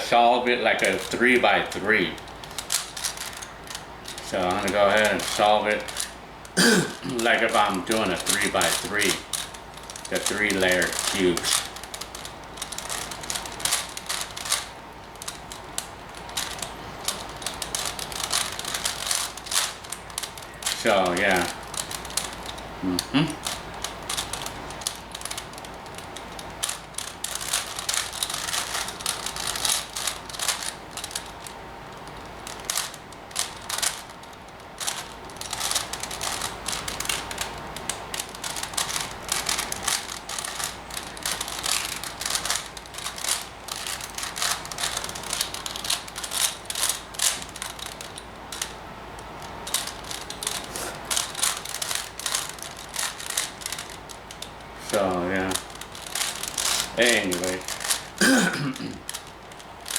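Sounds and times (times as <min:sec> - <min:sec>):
puzzle cube clicking as turned: 0:00.8 - 0:58.4, 0:59.0 - 0:59.9.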